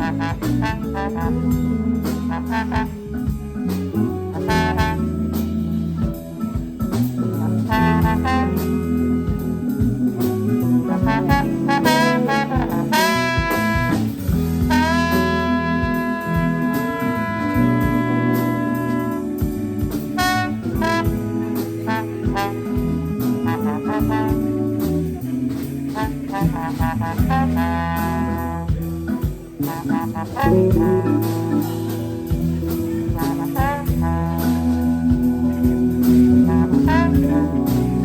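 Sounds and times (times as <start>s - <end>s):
horn lead with bending notes: 0.0s - 38.0s
jazz band playing: 0.0s - 38.0s.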